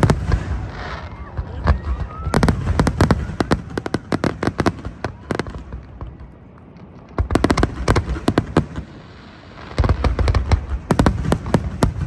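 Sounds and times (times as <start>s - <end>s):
firework crackles: 0.0s - 12.0s.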